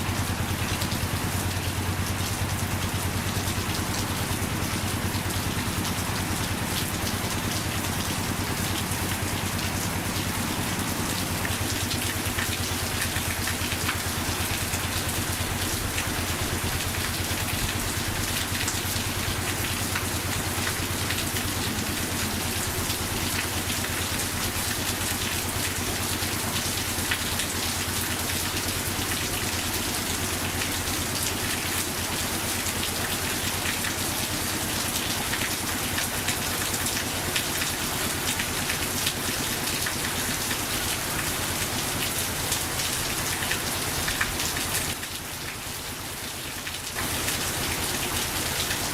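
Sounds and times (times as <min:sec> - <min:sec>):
heavy rain pattering: 0:00.0 - 0:48.9.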